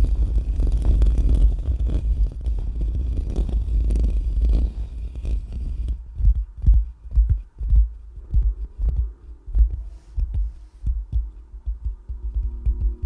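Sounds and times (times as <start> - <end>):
fingers scratching on microphone: 0.0 - 13.0.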